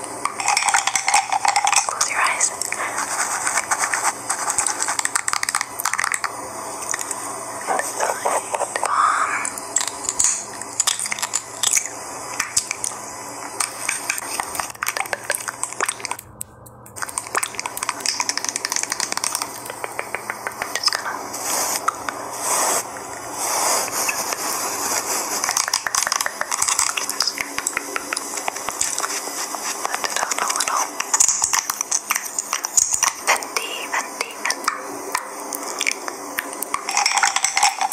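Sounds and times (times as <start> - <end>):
crisp clicks and crackles: 0.0 - 7.2, 9.4 - 22.2, 23.8 - 37.9.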